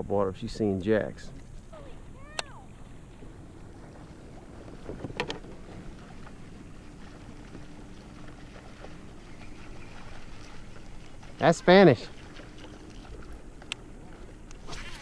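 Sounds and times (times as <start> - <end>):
faint steady hum: 0.0 - 15.0
water noise around kayak: 0.0 - 15.0
wind: 0.0 - 15.0.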